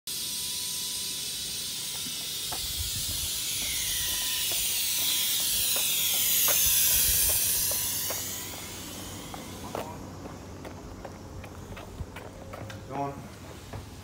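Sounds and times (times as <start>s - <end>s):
electric train departing: 0.1s - 14.0s.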